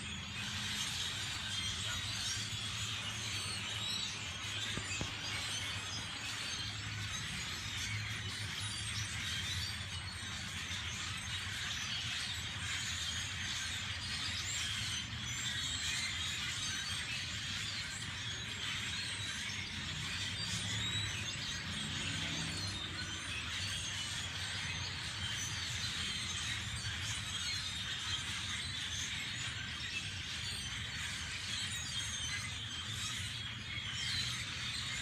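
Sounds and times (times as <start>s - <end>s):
flock of birds chattering: 0.0s - 35.0s.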